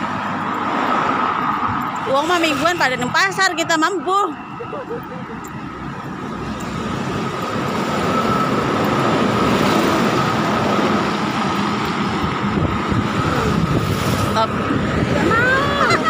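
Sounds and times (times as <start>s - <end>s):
heavy trucks passing: 0.0s - 16.0s.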